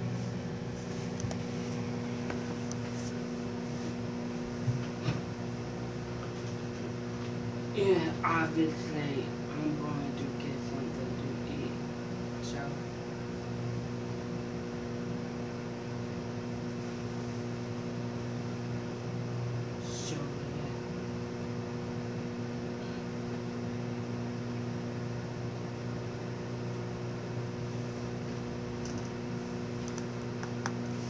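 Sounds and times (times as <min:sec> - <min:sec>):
microwave oven humming: 0:00.0 - 0:31.0.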